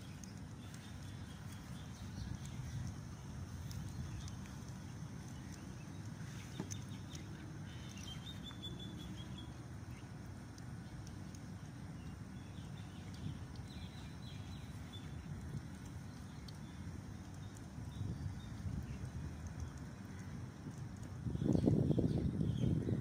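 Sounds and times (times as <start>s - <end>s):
bird chirping: 0.0s - 10.2s, 10.8s - 20.3s
steady low rumble: 0.0s - 23.0s.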